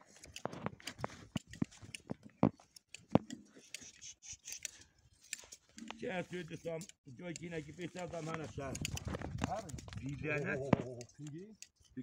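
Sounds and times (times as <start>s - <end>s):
shears snipping fleece: 0.0s - 12.0s.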